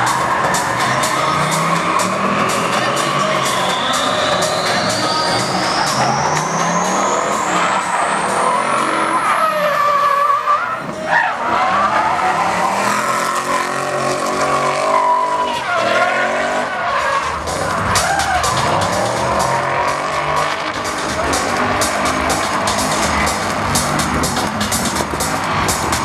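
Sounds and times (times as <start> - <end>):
car engine revving: 0.0 - 26.0
tyres squealing on asphalt: 0.0 - 26.0.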